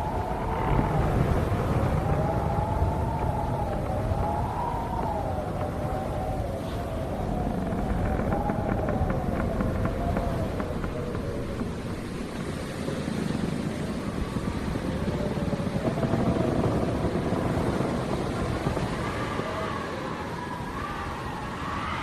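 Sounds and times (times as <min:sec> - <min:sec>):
howling wind: 0:00.0 - 0:22.0.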